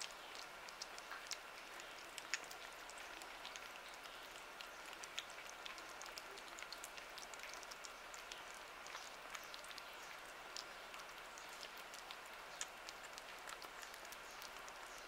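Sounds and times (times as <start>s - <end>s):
kittens chewing wet food: 0.0s - 15.0s.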